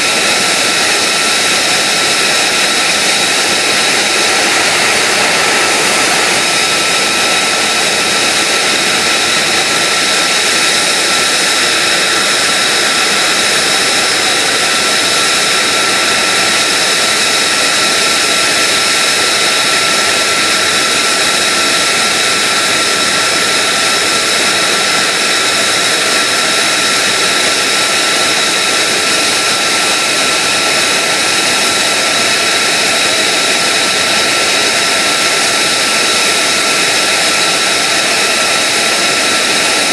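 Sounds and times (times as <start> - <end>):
jet engine running with whine: 0.0 - 39.9.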